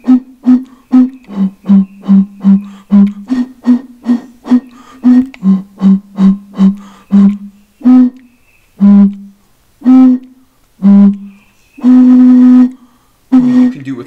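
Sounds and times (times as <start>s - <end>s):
blowing across bottles: 0.0s - 14.0s.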